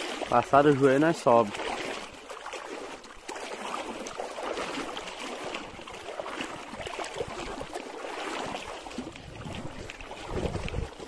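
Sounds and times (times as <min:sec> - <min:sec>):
sloshing and splashing water: 0:00.0 - 0:11.0.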